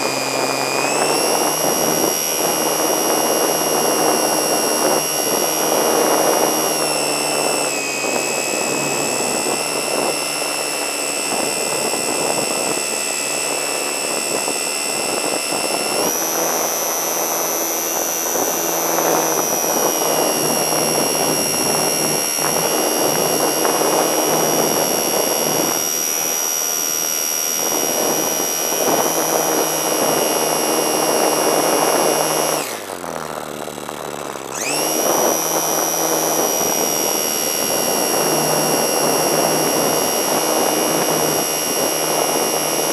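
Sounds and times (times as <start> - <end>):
electric motor whine: 0.0 - 42.9.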